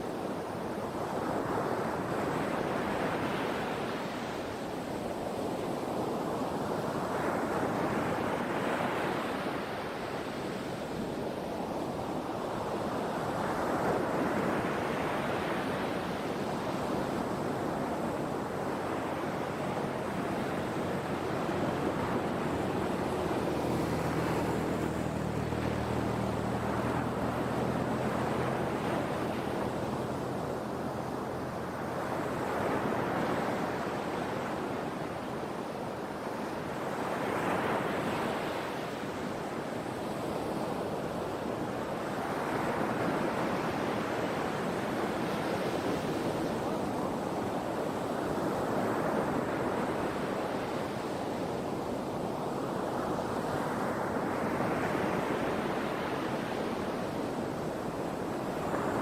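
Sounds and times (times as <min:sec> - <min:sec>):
sea waves breaking ashore: 0:00.0 - 0:59.0.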